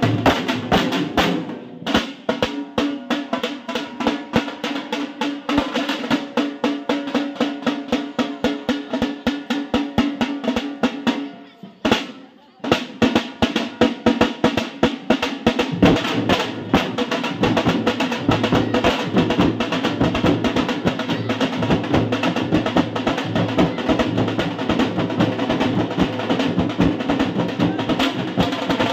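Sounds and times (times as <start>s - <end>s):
drums beaten with sticks and hands: 0.0s - 28.9s.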